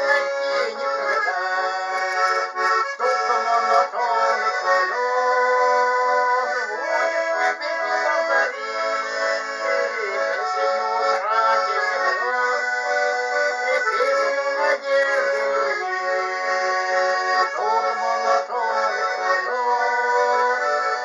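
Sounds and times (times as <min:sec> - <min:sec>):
accordion playing: 0:00.0 - 0:21.0.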